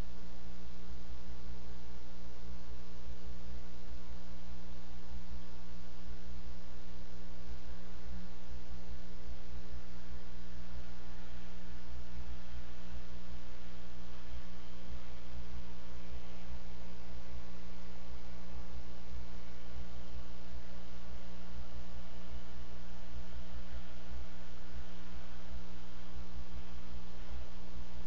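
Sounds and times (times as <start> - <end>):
constant hiss: 0.0 - 28.0
electrical mains hum: 0.0 - 28.0.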